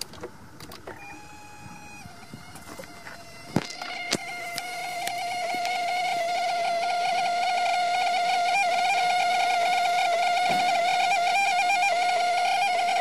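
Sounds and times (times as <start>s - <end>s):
mirror motor whine: 0.0s - 13.0s.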